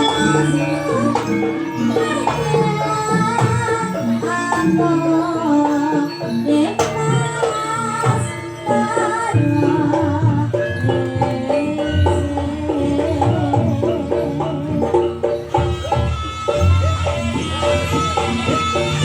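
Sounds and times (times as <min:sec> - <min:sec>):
sustained pitched percussion: 0:00.0 - 0:19.0
vibrato lead melody: 0:00.0 - 0:19.0.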